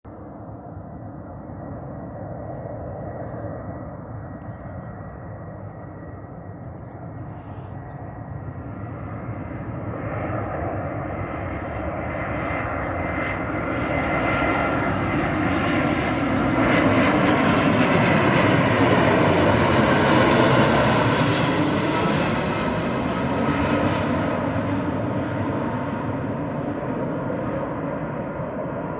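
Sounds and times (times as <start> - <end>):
jet airliner passing: 0.1 - 28.9.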